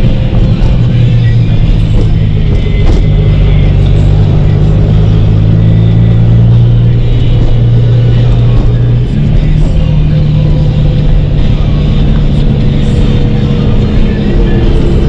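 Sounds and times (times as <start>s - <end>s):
car engine cruising drone: 0.0s - 15.0s.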